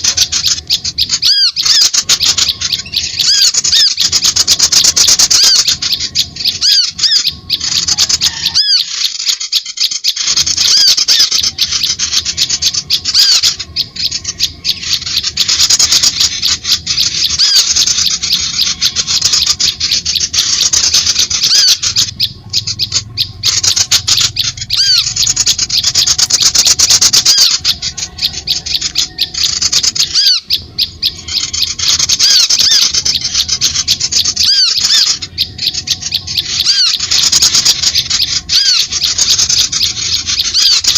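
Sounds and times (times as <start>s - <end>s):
songbirds chirping rapidly: 0.0s - 40.9s.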